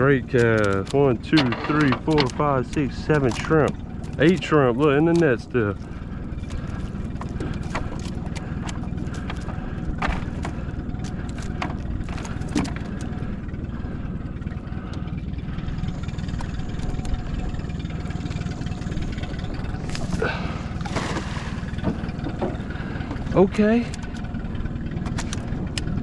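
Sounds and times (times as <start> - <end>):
boat motor idling: 0.0 - 26.0.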